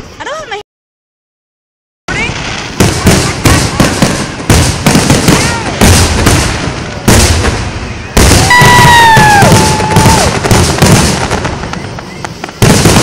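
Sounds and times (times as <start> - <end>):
fireworks bangs: 2.1 - 13.0
fireworks crackling: 2.1 - 13.0.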